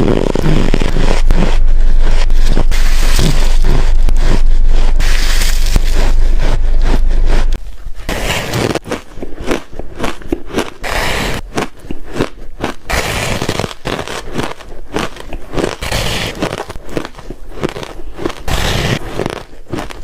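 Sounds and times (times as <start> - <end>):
ice crunching between teeth: 0.0 - 20.0.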